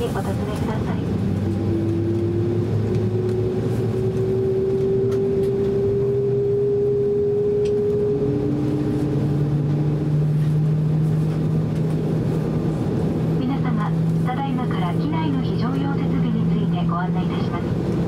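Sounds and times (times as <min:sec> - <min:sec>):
low hum climbing: 0:00.0 - 0:18.0
humming whine rising: 0:01.1 - 0:18.0.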